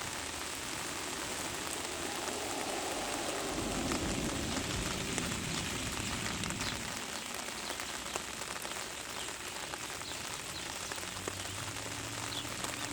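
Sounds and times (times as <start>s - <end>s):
steady rain falling: 0.0s - 12.9s.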